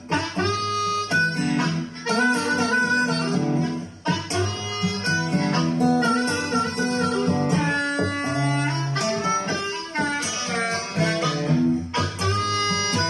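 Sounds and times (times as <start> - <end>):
recorded music through speaker: 0.0 - 13.0.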